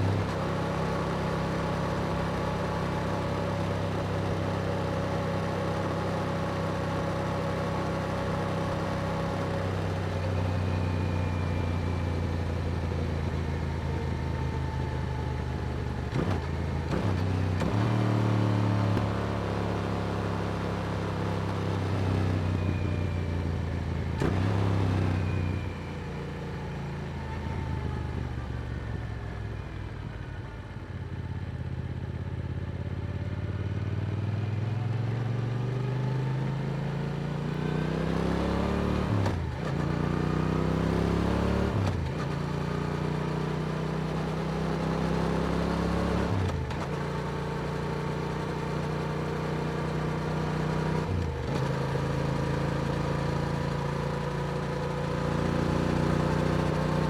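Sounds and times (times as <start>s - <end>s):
motorcycle engine accelerating: 0.0s - 30.7s, 32.5s - 57.0s.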